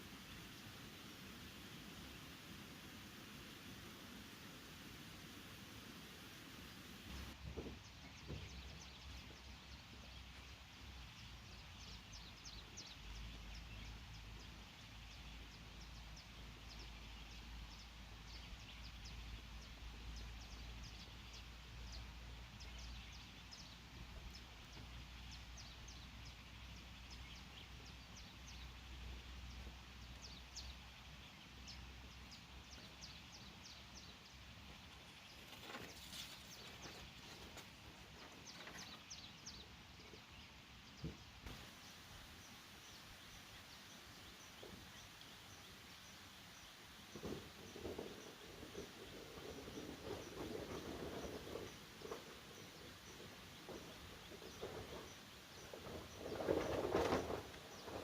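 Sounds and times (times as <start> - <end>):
rustle: 0.0 - 58.0.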